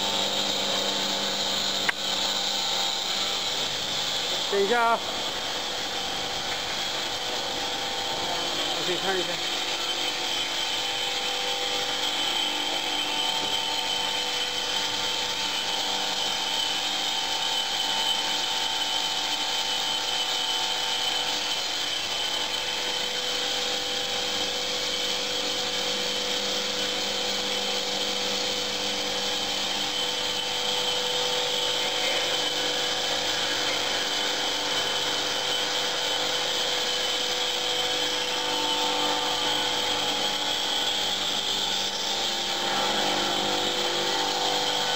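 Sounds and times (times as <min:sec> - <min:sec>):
high machine whine: 0:00.0 - 0:44.9
machine hissing: 0:00.0 - 0:44.9.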